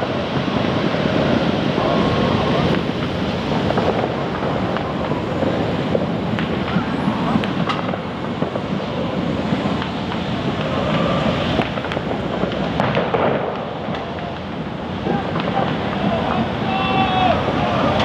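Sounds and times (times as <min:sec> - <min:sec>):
dense rumble: 0:00.0 - 0:18.0
fireworks popping and cracking: 0:00.0 - 0:18.0.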